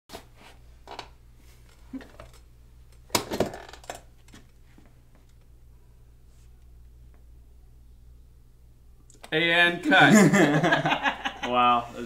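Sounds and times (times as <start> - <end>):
low steady hum: 0.3 - 12.0.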